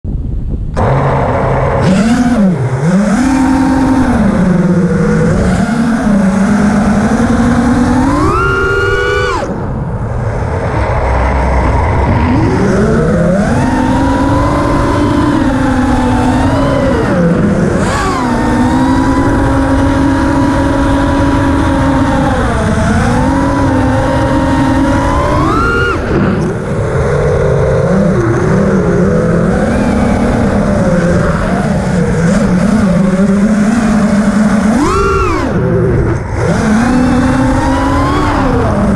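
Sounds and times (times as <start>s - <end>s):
rushing wind: 0.0s - 38.9s
quadcopter motors whining: 0.7s - 38.9s.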